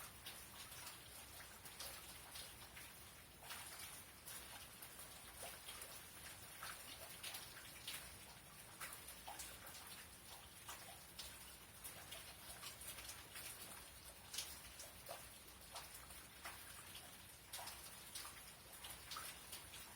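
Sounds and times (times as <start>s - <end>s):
light steady rain hiss: 0.0s - 19.9s
raindrops ticking: 0.0s - 19.9s.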